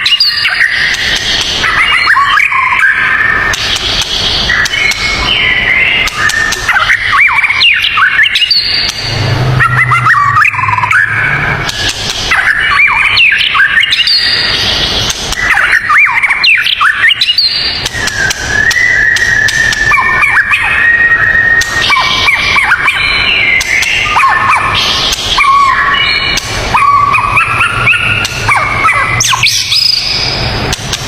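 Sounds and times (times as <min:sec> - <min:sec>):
bird singing whistled phrases: 0:00.0 - 0:30.4.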